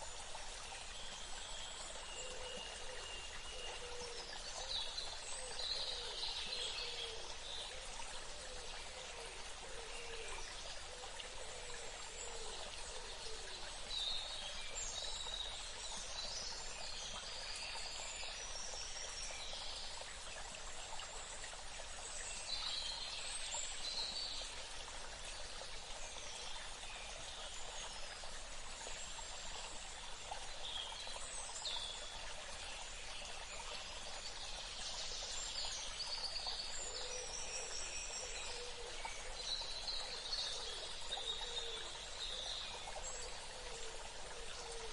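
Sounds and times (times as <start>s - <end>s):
running water: 0.0s - 44.9s.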